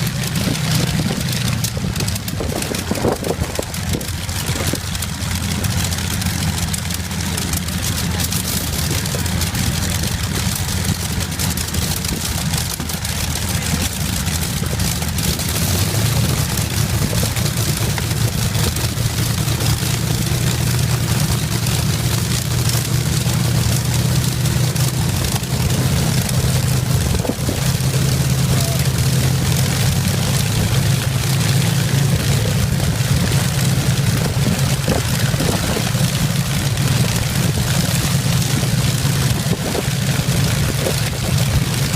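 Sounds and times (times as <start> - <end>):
aero engine droning: 0.0 - 41.9.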